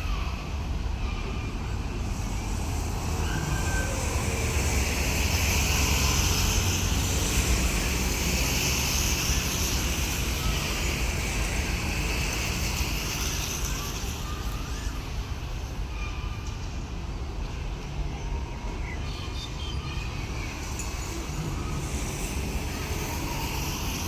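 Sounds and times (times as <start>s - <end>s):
rail vehicle diesel rumble: 0.0s - 24.0s
rushing hiss: 0.1s - 16.4s, 19.9s - 24.0s.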